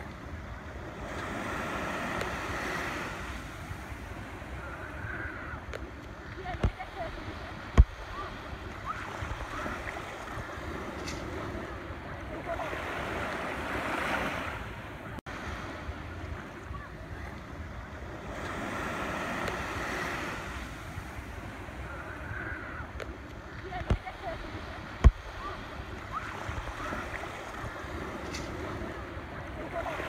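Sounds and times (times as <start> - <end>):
surf washing in: 0.0 - 30.0
wind buffeting microphone: 0.0 - 30.0.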